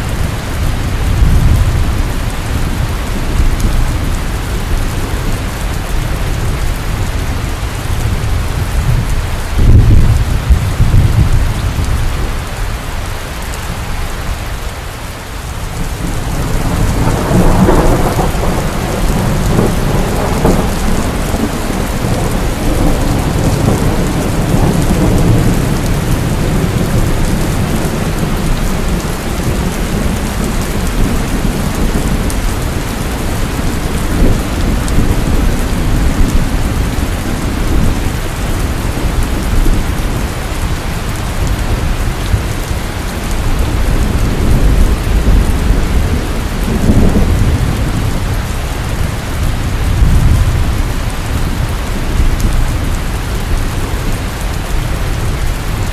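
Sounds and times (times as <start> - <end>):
low rolling thunder: 0.0 - 12.6, 15.6 - 55.9
heavy rain falling: 0.0 - 55.9.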